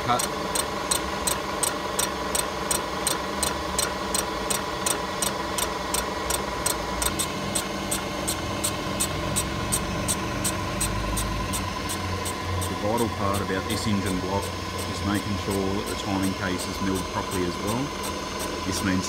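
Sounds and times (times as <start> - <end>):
milling machine cutting metal: 0.0 - 19.0
sharp cutter ticks: 0.1 - 18.5.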